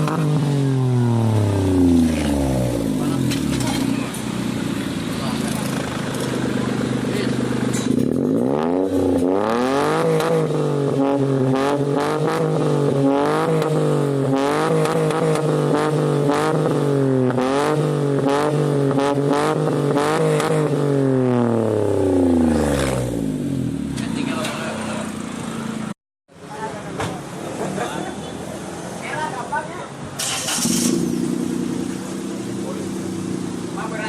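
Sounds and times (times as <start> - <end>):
car engine revving: 0.0 - 26.0, 30.2 - 34.0.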